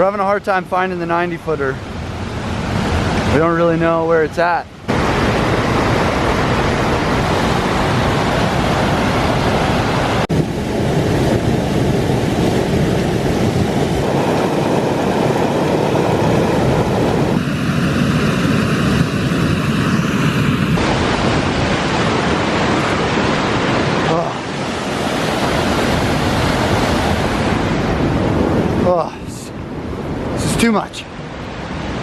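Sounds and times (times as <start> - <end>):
waterfall rushing: 4.7 - 32.0.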